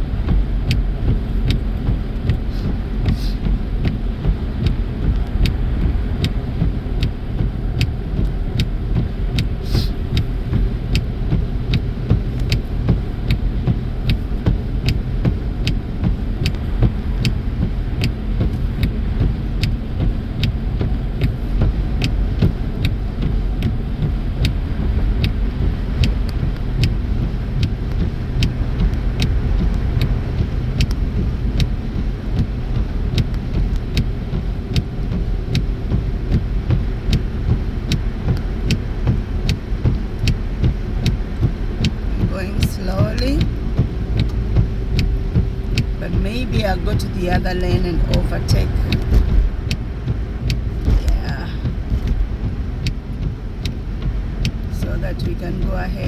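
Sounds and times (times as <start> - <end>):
tyre and engine rumble: 0.0 - 56.0.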